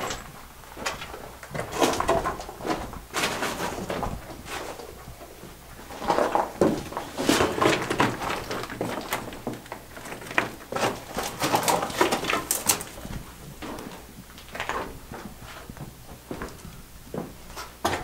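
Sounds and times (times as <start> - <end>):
footsteps crunching on loose rock: 0.0 - 18.0.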